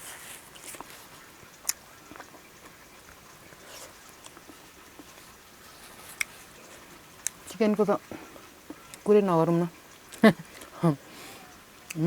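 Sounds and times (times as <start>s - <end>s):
soft chewing: 0.0s - 9.1s, 9.7s - 12.0s.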